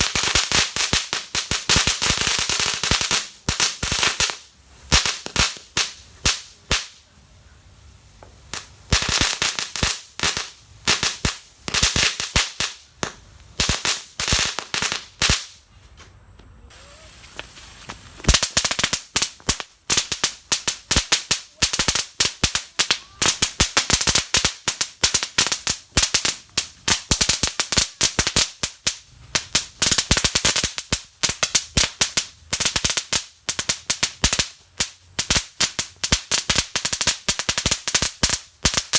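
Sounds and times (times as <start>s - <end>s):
firecrackers cracking: 0.0s - 15.7s, 16.7s - 38.9s.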